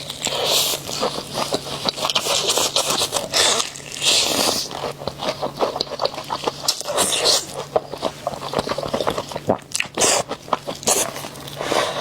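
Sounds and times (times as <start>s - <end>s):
crunchy food being chewed: 0.0s - 12.0s.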